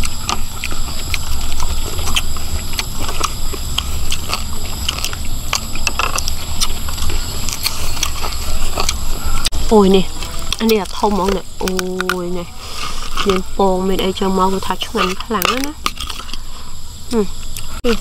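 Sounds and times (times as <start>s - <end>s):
people chewing crunchy food: 0.0s - 18.0s.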